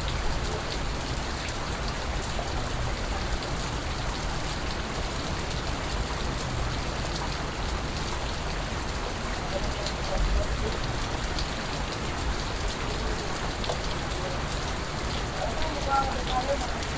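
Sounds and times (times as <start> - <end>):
raindrops ticking: 0.0 - 16.9
steady rain falling: 0.0 - 16.9.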